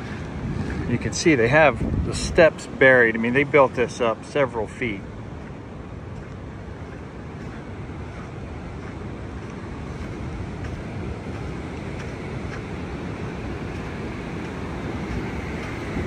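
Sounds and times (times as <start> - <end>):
heavy surf washing: 0.0 - 16.0
wind buffeting microphone: 0.0 - 16.0.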